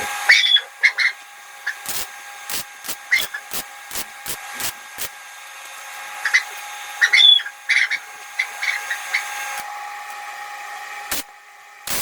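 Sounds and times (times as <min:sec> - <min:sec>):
arc welding sizzle and crackle: 0:00.0 - 0:12.0.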